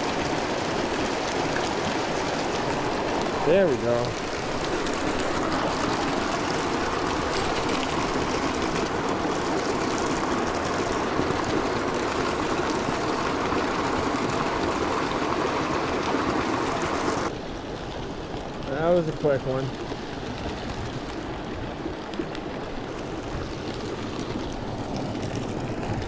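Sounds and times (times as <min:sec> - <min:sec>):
mountain stream rushing and splashing: 0:00.0 - 0:26.0.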